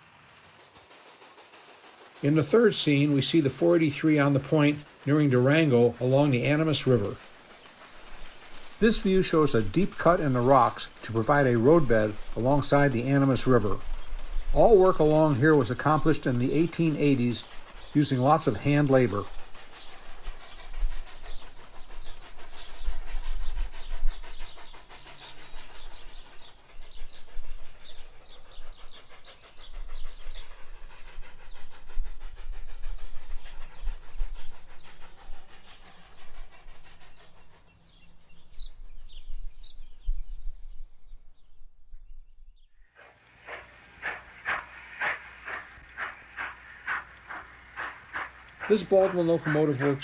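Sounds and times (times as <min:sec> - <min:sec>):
steam locomotive chuffing: 0:00.0 - 0:40.2, 0:42.9 - 0:50.0.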